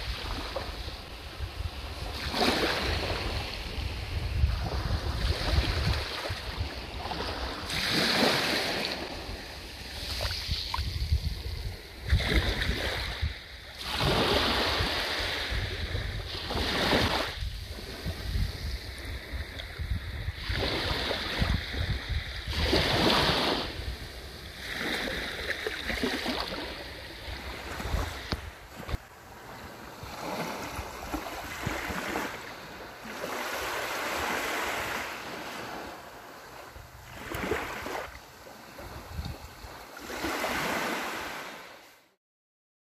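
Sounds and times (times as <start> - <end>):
wind rumble on microphone: 0.0 - 35.9, 36.6 - 40.7
small waves washing up beach: 0.0 - 42.2.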